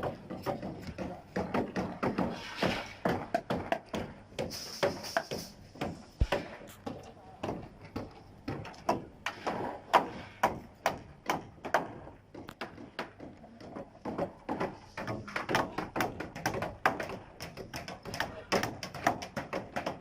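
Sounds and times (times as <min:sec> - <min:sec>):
hammer knocking: 0:00.0 - 0:20.0.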